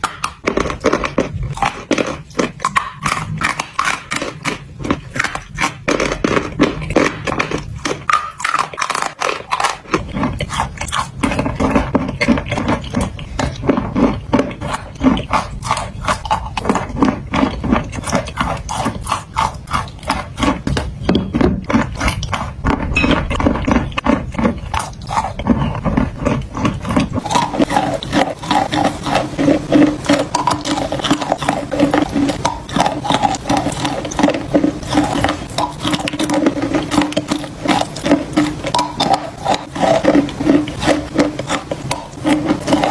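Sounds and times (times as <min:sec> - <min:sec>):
clay crunching and crackling: 0:00.0 - 0:42.9.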